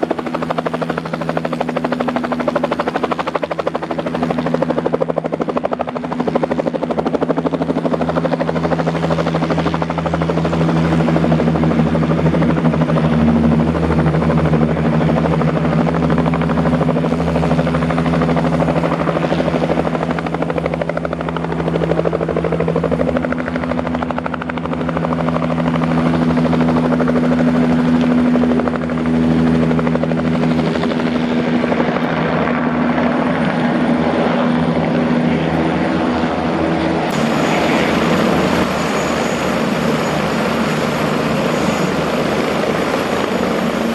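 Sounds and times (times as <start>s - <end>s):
helicopter turbine and rotor drone: 0.0s - 43.9s.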